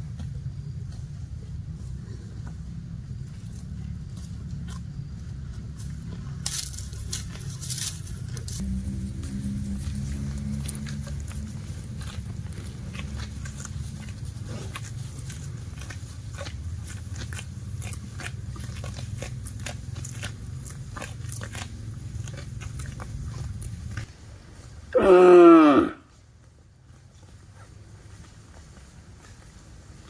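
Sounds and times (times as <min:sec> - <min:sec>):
low rumble: 0:00.0 - 0:24.4
cattle clicking and crunching: 0:00.0 - 0:30.0.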